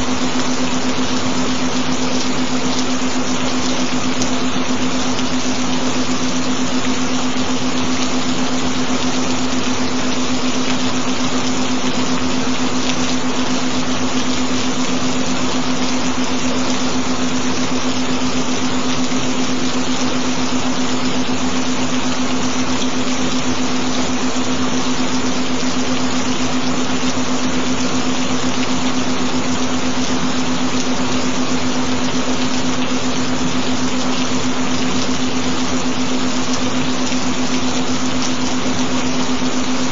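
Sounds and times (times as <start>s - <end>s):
continuous low tone: 0.0s - 39.9s
steady rain: 0.0s - 39.9s.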